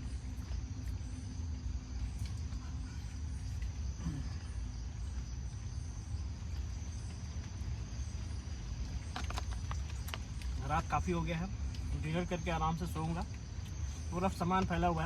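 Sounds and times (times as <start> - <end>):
constant low rumble: 0.0 - 15.0
crickets chirping: 0.0 - 15.0.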